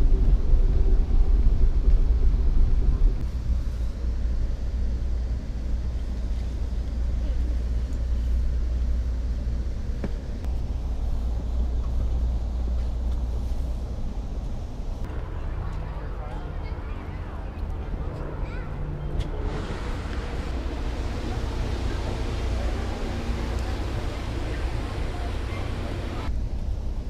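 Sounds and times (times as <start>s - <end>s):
train rumble inside coach: 0.0s - 27.0s.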